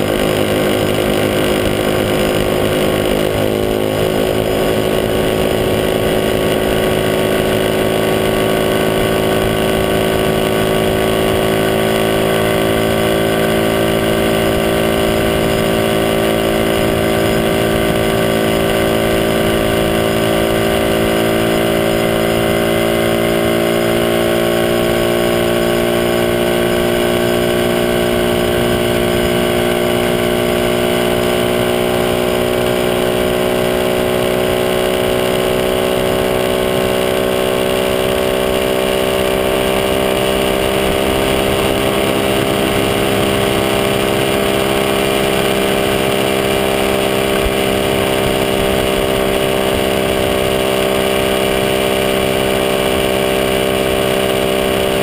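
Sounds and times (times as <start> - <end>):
small motorcycle engine running: 0.0 - 55.0.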